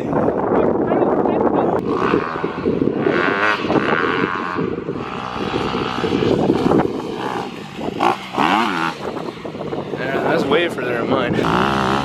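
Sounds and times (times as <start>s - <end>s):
dirt bike engine revving: 1.7s - 12.0s.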